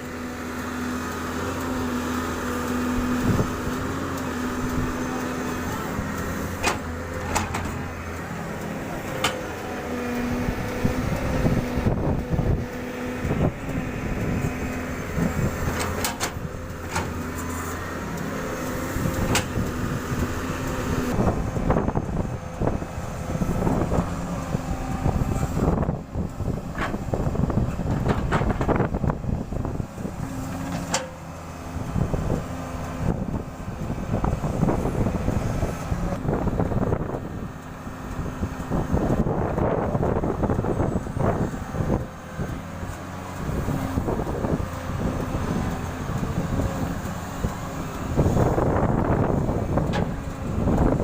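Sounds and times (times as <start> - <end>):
excavator diesel engine working: 0.0 - 51.0.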